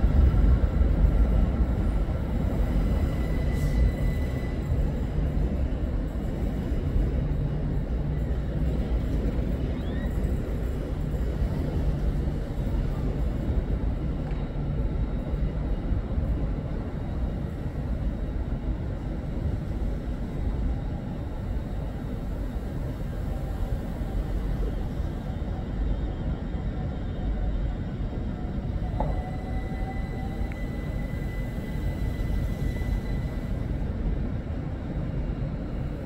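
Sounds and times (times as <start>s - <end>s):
train rumble: 0.0s - 36.0s.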